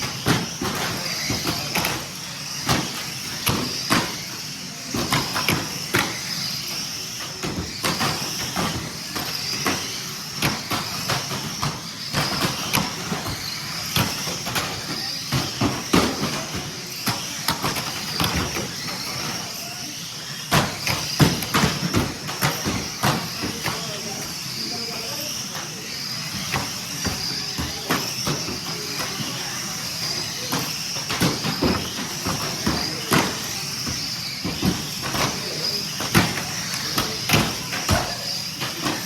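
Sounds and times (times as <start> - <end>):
toy car motor whine: 0.0 - 39.0.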